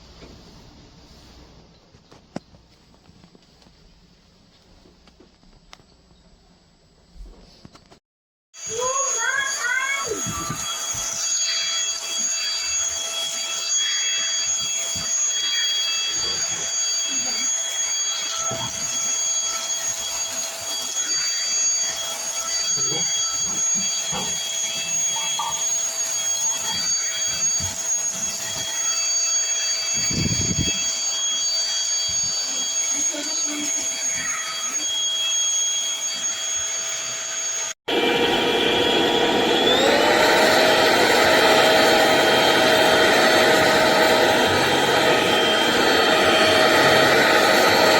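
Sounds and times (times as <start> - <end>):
vacuum cleaner motor whine: 8.6 - 47.9.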